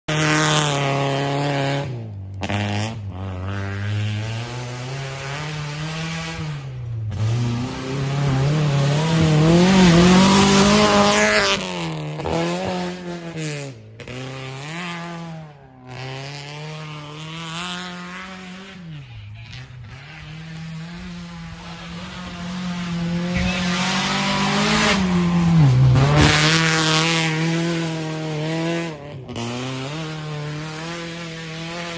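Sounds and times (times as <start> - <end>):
car engine revving hard: 0.1 - 31.9.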